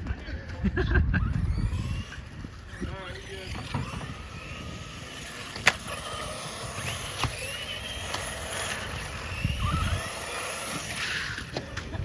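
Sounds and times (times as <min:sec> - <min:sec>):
rc car electric motors whining: 0:00.4 - 0:12.0.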